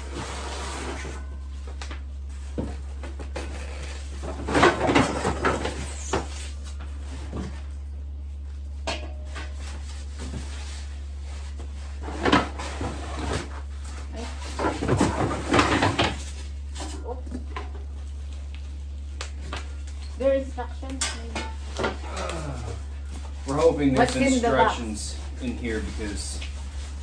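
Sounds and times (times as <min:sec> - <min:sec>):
steady low hum: 0:00.9 - 0:27.0.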